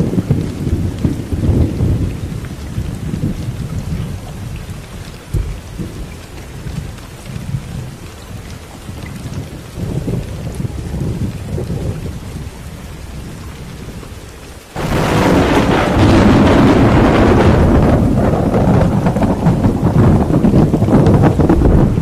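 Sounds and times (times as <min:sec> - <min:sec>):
rolling thunder: 0:00.0 - 0:22.0
steady rain: 0:00.0 - 0:22.0.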